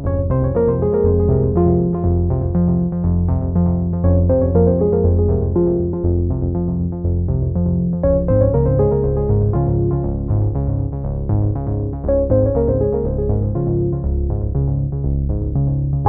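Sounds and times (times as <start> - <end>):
synthesizer and keyboard music: 0.0 - 16.0.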